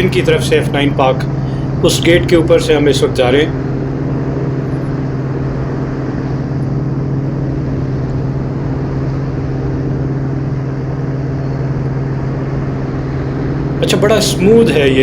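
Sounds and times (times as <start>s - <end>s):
engine and propeller drone: 0.0s - 15.0s
wind rushing over microphone: 0.0s - 15.0s.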